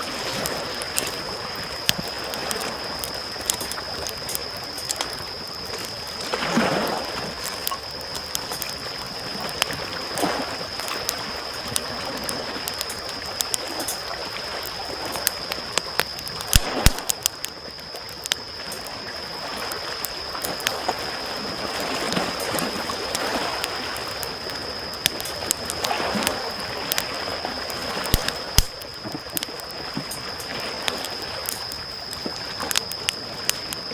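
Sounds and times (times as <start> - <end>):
small waves washing on shore: 0.0 - 15.8, 18.5 - 33.9
campfire crackling and popping: 0.0 - 33.9.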